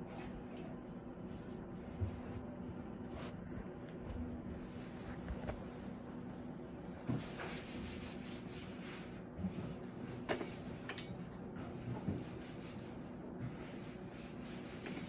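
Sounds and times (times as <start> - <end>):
machine low hum: 0.0 - 15.0.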